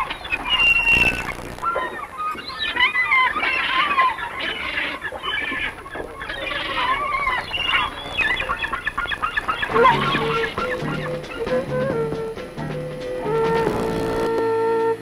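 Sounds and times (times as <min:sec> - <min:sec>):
flock of birds calling: 0:00.0 - 0:13.6.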